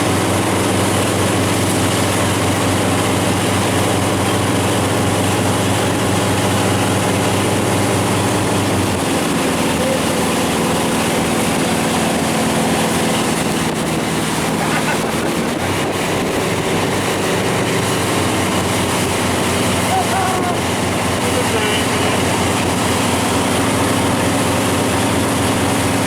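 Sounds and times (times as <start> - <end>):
watercraft engine running: 0.0 - 26.0
wind and water noise: 0.0 - 26.0.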